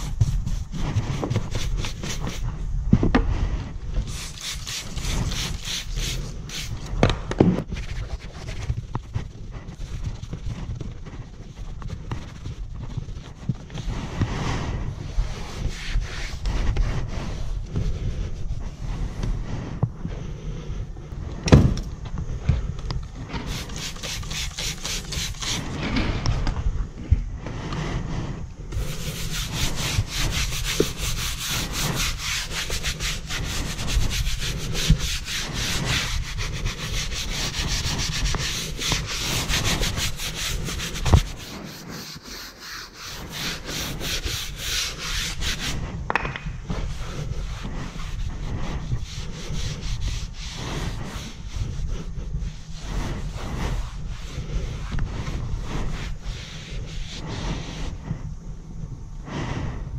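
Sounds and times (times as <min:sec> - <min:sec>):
hand rubbing and scrubbing: 0:00.0 - 0:21.3, 0:22.2 - 0:58.4.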